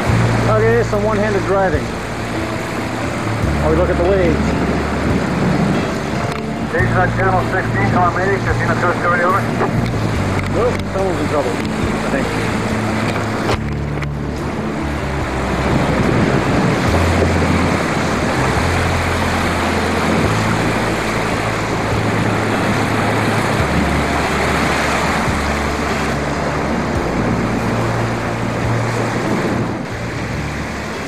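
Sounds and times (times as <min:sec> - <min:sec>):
rough sea rushing: 0:00.0 - 0:31.0
wind buffeting microphone: 0:00.0 - 0:31.0.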